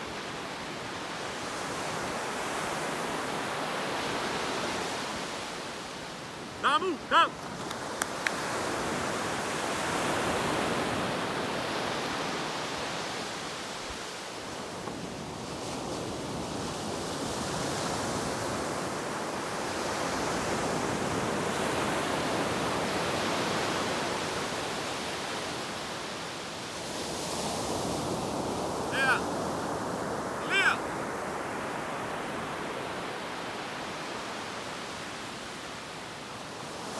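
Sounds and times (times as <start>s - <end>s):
waves breaking on a beach: 0.0s - 36.9s.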